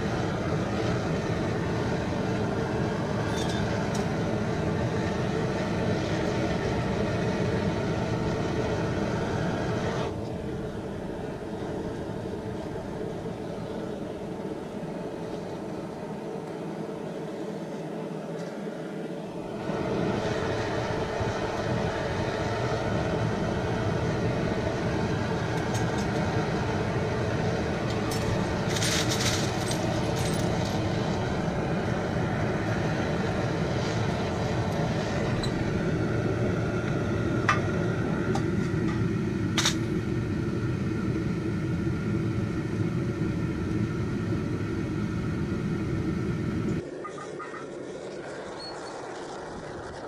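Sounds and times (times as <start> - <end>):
furnace roaring: 0.0 - 50.0.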